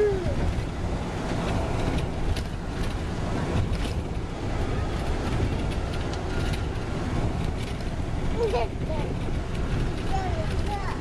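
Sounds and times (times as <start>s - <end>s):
vehicle interior rumble: 0.0s - 11.0s.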